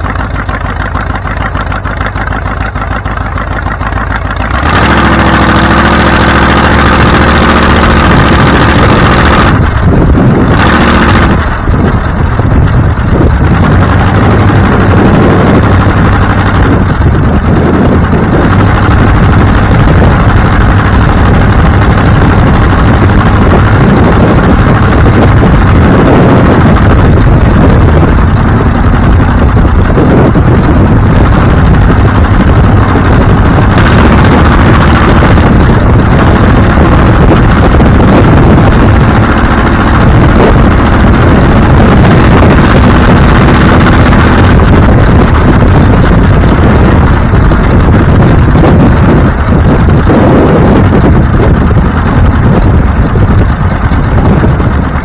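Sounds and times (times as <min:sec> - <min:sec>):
vehicle engine running loudly: 0:00.0 - 0:55.0.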